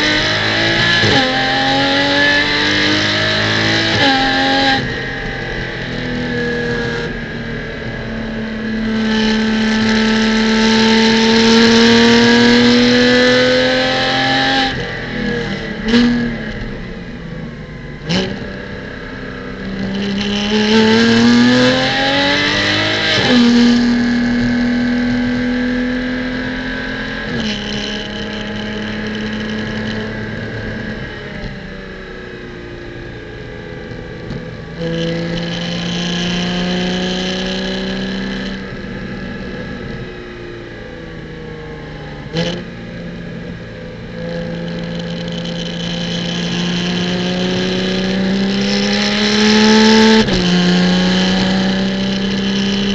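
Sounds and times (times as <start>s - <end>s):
race car engine: 0.0s - 52.9s.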